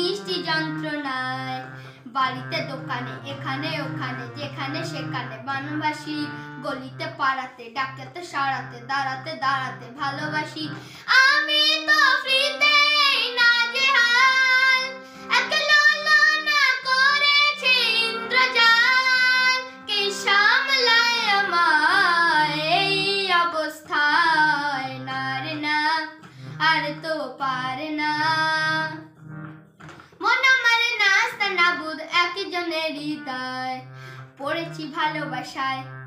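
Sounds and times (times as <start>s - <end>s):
boy singing: 0.0s - 29.0s, 30.2s - 35.9s
backing music: 0.0s - 30.3s.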